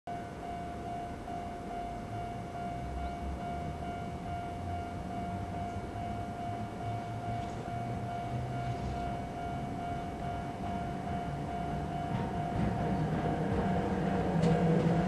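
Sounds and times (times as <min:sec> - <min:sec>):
electric locomotive whining: 0:00.1 - 0:15.0.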